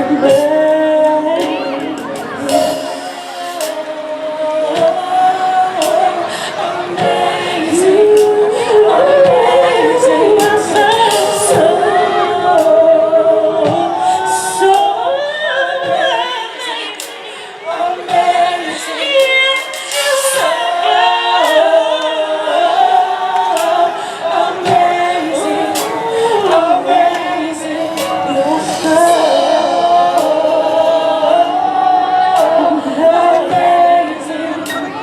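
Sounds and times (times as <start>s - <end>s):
drums: 0.0s - 35.0s
female gospel group singing: 0.0s - 35.0s
piano: 0.0s - 35.0s.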